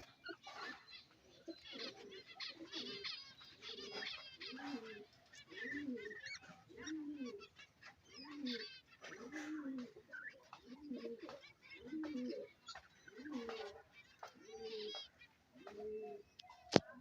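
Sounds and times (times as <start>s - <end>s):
budgerigars chattering: 0.0s - 16.4s.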